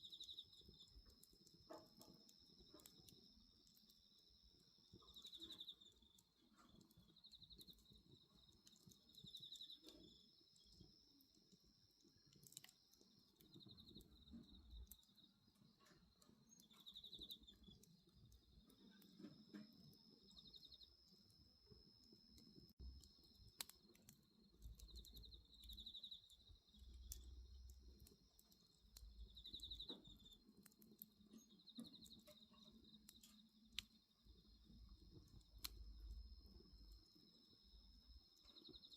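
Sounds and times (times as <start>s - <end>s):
bonfire crackling: 0.0s - 38.9s
cricket chirps: 0.0s - 38.9s
insects trilling: 0.0s - 38.9s.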